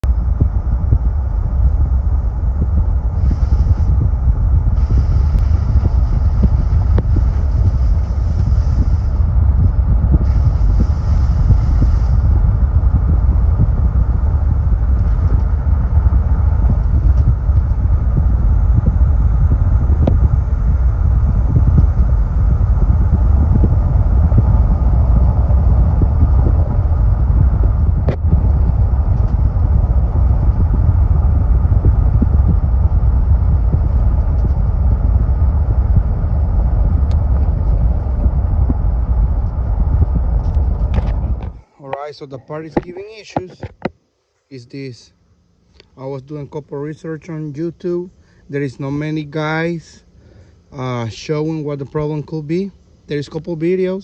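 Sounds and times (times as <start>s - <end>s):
engine and road rumble: 0.0s - 54.0s
higher hissing noise: 0.1s - 43.8s, 44.4s - 54.0s.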